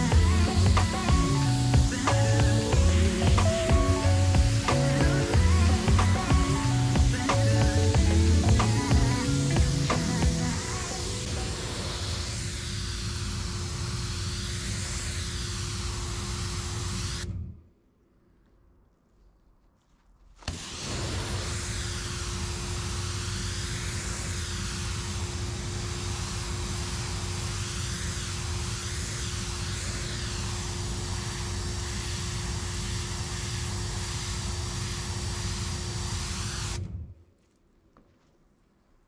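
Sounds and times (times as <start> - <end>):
steam cleaner hissing: 0.0 - 17.2, 20.4 - 36.8
low machine drone: 0.0 - 18.0, 20.5 - 37.2.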